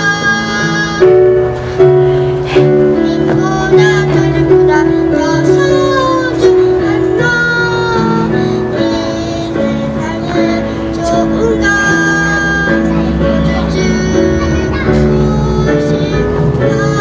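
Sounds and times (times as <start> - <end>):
girl singing into a microphone: 0.0 - 17.0
instrumental accompaniment: 0.0 - 17.0.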